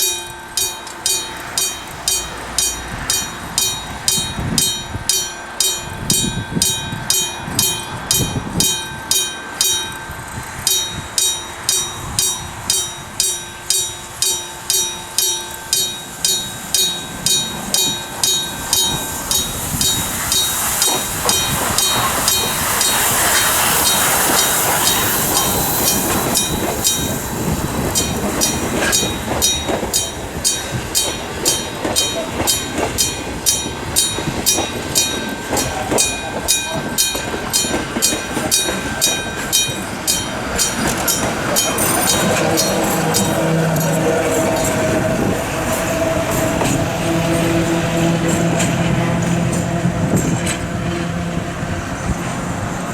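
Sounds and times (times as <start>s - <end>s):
level crossing alarm gong ringing: 0.0s - 51.4s
train rumble: 0.0s - 52.9s.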